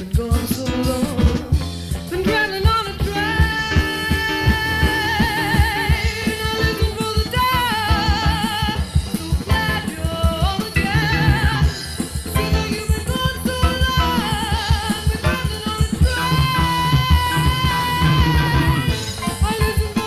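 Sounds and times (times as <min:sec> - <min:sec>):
band playing: 0:00.0 - 0:20.0
woman singing with vibrato: 0:00.0 - 0:20.0.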